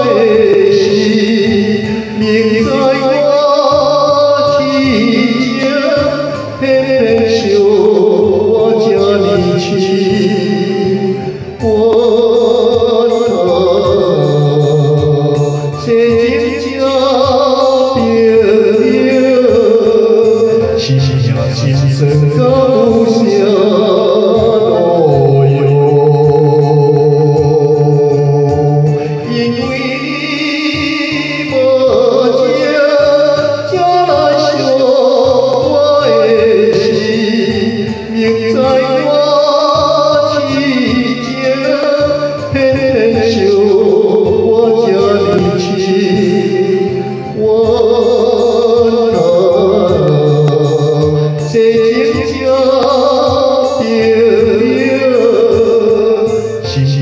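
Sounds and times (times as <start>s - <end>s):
elderly man singing ballad: 0.0s - 57.0s
karaoke backing track: 0.0s - 57.0s.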